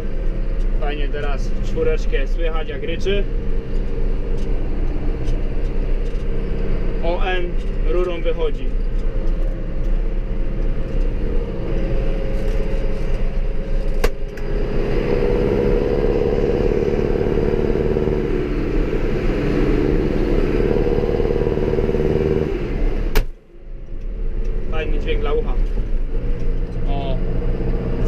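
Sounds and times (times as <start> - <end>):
tractor diesel engine roaring: 0.0 - 28.0.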